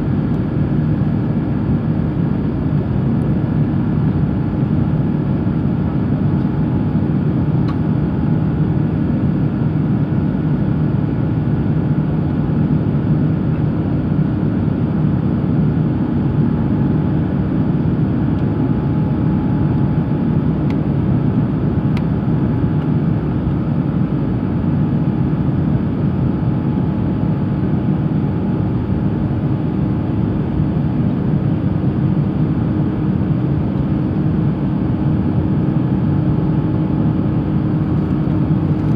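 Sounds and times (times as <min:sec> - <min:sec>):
aircraft cabin drone: 0:00.0 - 0:38.9.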